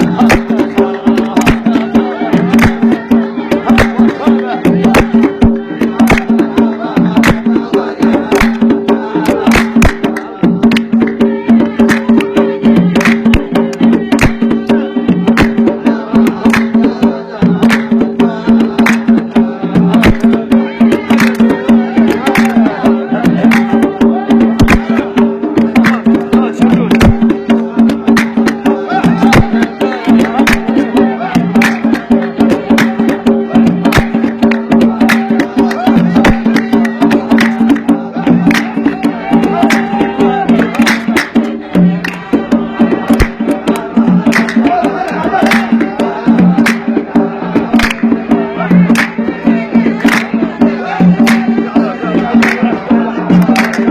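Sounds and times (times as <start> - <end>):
sharp percussive strikes: 0.0 - 53.9.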